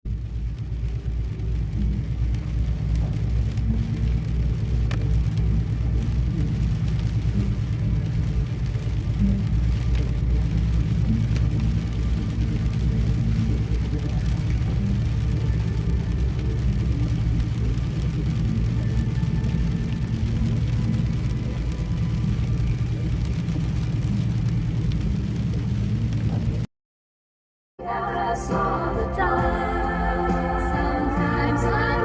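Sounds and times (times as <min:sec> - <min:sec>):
car engine and road rumble: 0:00.0 - 0:26.7
faint ticks: 0:00.1 - 0:26.6.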